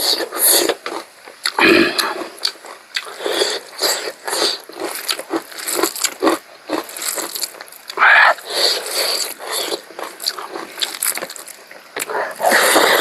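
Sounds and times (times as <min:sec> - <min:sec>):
person biting and chewing: 0:00.0 - 0:13.0.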